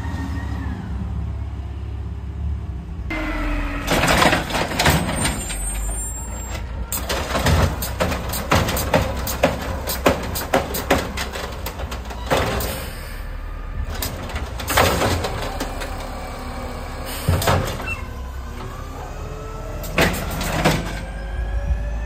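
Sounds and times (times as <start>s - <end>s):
garbage truck engine running: 1.5s - 22.0s.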